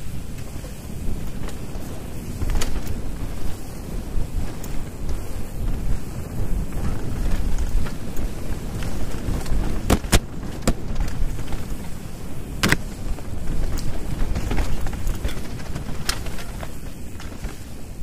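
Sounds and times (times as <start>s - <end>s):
bike tyres rolling over dirt: 0.0s - 18.0s
wind buffeting microphone: 0.0s - 18.0s.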